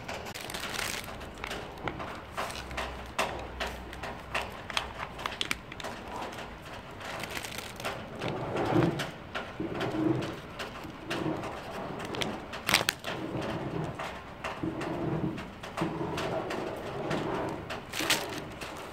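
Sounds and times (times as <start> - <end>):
rustling: 0.0 - 18.9.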